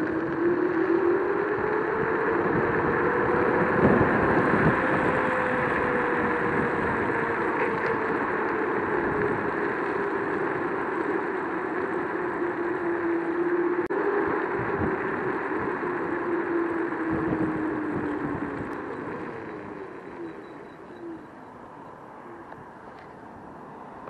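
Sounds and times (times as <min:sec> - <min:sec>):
electric scooter motor whine: 0:00.0 - 0:24.0
tyre and wind noise: 0:00.0 - 0:24.0.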